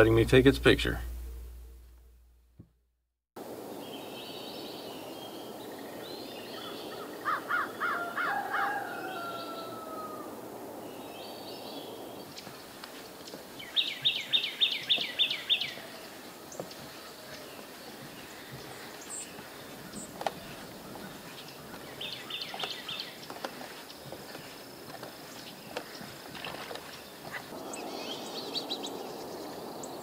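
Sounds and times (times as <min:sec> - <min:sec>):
wild birds calling: 0:03.8 - 0:30.0.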